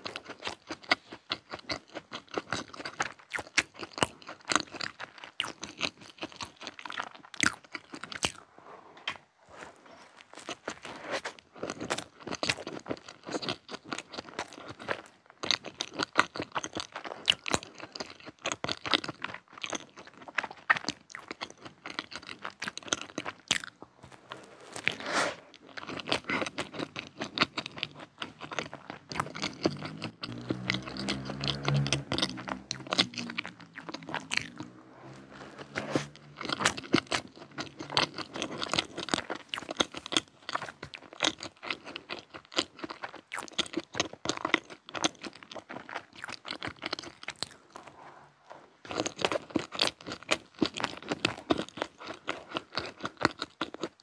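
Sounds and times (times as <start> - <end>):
crisp crunchy chewing: 0.0 - 54.0.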